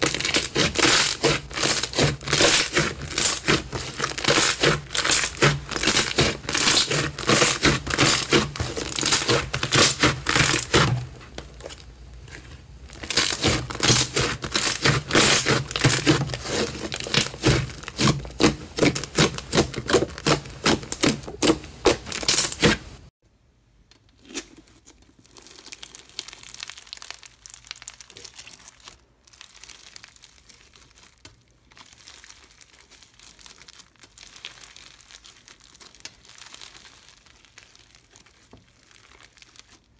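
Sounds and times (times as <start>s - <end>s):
crunchy slime crackling: 0.0s - 23.0s, 24.1s - 39.9s
slime crackling when kneaded: 0.0s - 23.0s, 24.7s - 39.9s.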